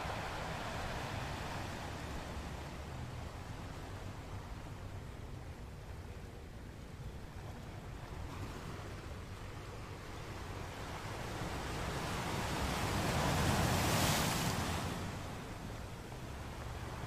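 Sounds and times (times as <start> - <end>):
sea wash: 0.0 - 17.0.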